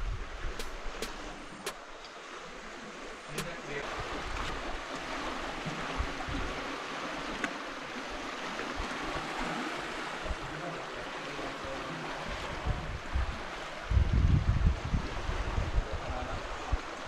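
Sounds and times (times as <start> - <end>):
sea water lapping on rocks: 0.0 - 14.0.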